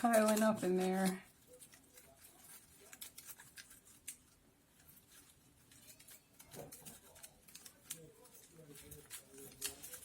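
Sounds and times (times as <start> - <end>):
palm fronds rustling and clicking: 0.0 - 10.0.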